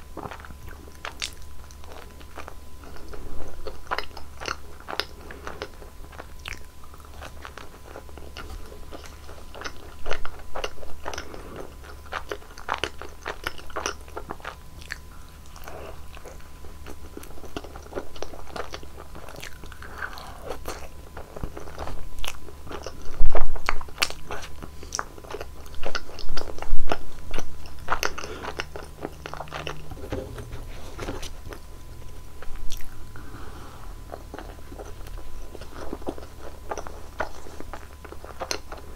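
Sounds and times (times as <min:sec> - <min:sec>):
crunchy biting and chewing: 0:00.0 - 0:38.9.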